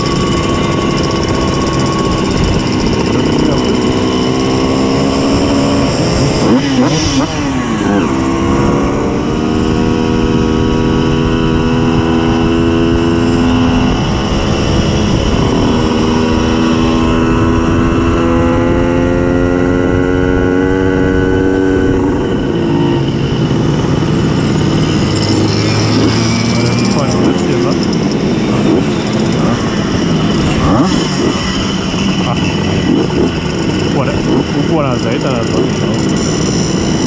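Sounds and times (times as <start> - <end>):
moped engine revving high: 0.0 - 37.0.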